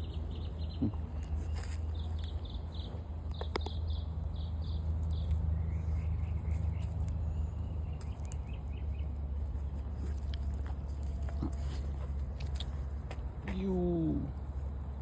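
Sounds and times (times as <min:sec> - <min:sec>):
birds chirping: 0:00.0 - 0:14.4.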